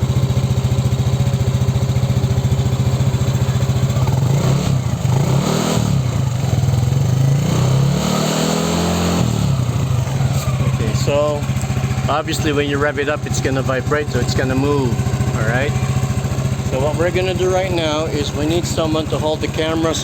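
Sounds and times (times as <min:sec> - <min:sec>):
scooter engine idling and revving: 0:00.0 - 0:20.0.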